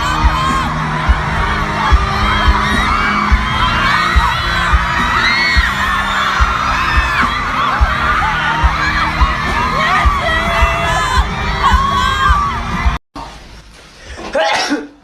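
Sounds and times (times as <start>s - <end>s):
crowd cheering and screaming: 0.0s - 13.0s
music with heavy bass beat: 0.0s - 13.0s.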